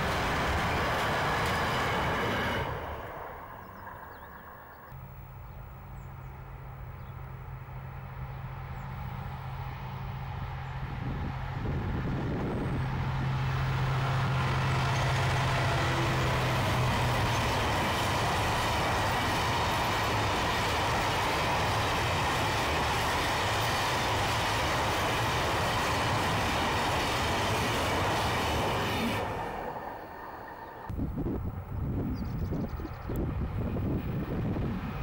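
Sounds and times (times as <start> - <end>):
diesel locomotive engine hum: 0.0 - 35.0.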